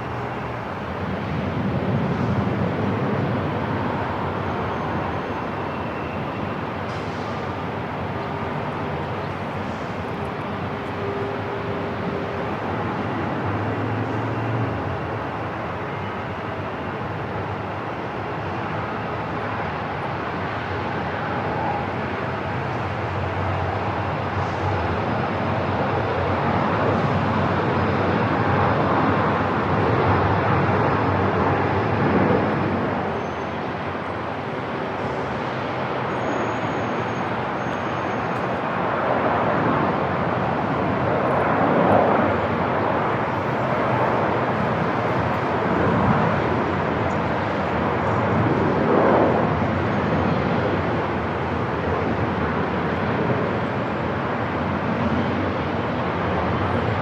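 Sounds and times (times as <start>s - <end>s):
airport ambience roar: 0.0s - 57.0s.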